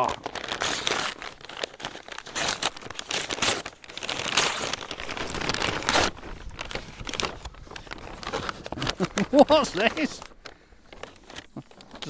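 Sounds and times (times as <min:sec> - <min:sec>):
paper packaging rustling: 0:00.0 - 0:12.0.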